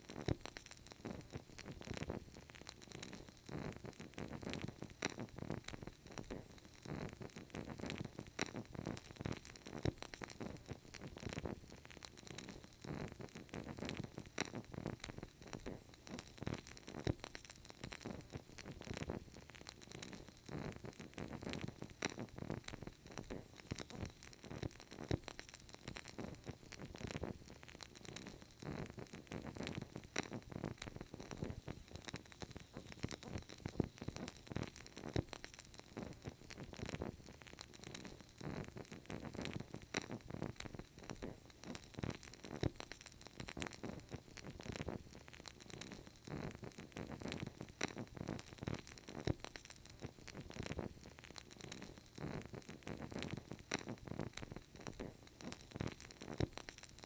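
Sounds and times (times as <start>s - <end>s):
candle crackling: 0.0s - 57.0s.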